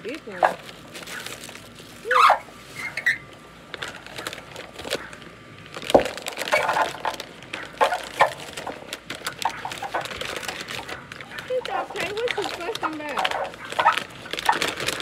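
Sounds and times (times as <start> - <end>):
bubble wrap crinkling: 0.1 - 15.0.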